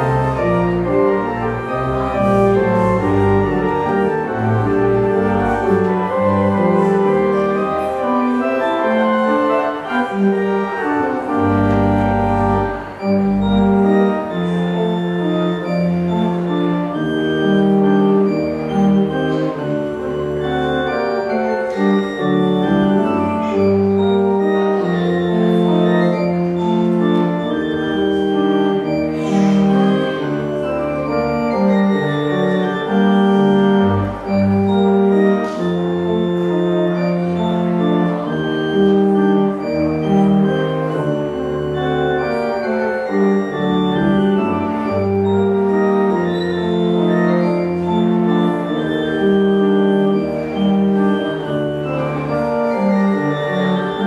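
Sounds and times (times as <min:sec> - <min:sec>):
organ playing slow chords: 0:00.0 - 0:54.0.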